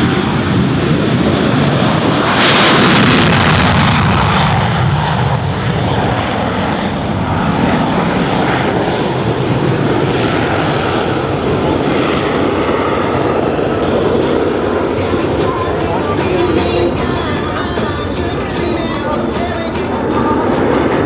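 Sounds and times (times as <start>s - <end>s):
fighter jet engine roaring: 0.0s - 21.0s.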